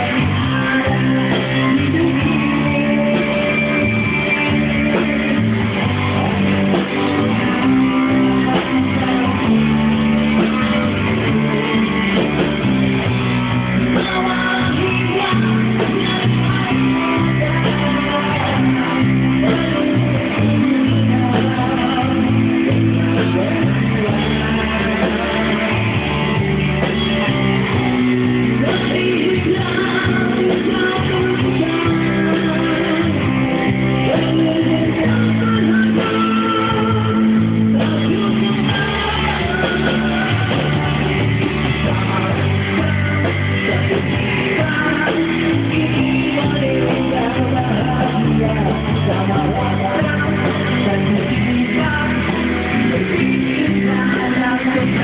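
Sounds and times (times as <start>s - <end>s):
amplified singing: 0.0s - 55.0s
guitar: 0.0s - 55.0s
steady bass line: 0.0s - 55.0s.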